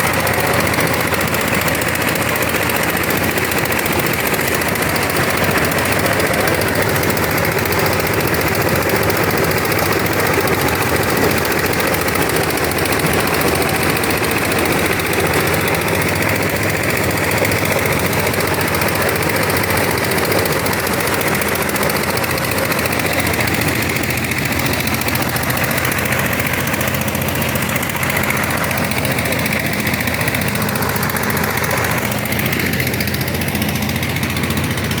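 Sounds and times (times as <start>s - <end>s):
corn sheller machine rattling: 0.0s - 35.0s.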